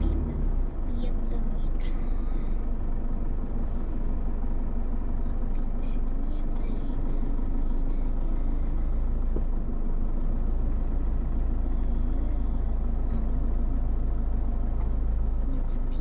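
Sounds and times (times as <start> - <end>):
vehicle low rumble: 0.0 - 16.0.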